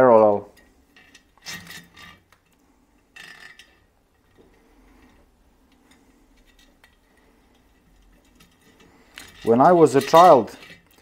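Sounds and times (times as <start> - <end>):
steel spokes clicking on rim: 0.2 - 11.0.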